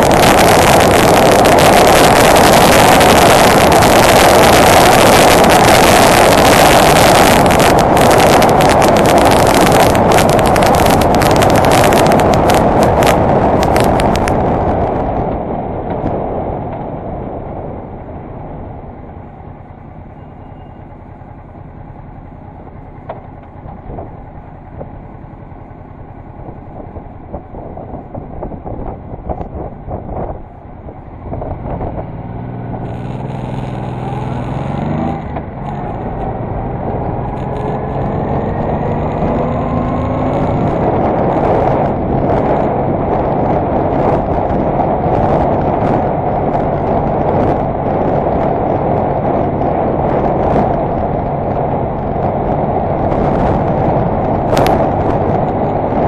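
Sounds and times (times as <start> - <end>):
motorcycle engine running: 0.0 - 16.9, 17.7 - 56.0
wind rush on microphone: 0.0 - 20.2, 22.6 - 56.0.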